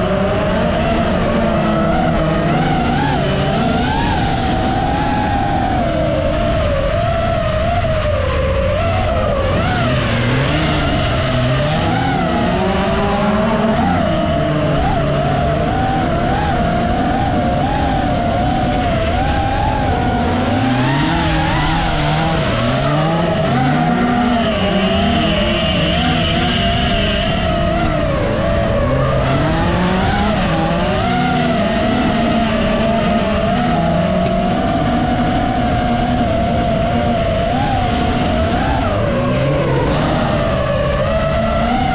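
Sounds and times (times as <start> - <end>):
drone motors whining: 0.0 - 41.9
race car engines revving: 0.0 - 41.9.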